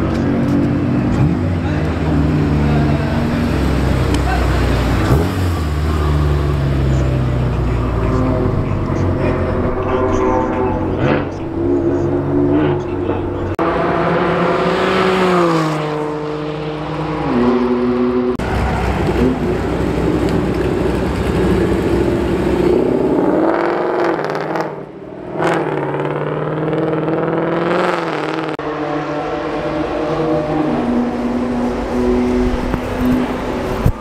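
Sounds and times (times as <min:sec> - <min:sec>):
sports car engines revving: 0:00.0 - 0:34.0.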